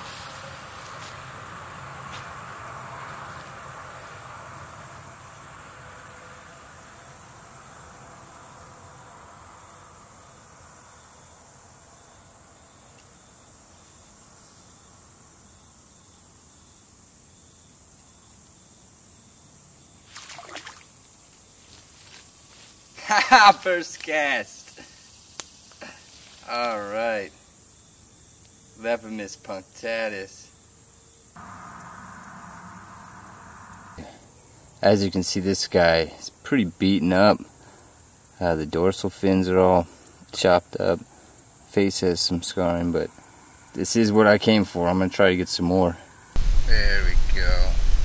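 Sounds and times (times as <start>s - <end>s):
insects chirring: 0.0s - 48.0s.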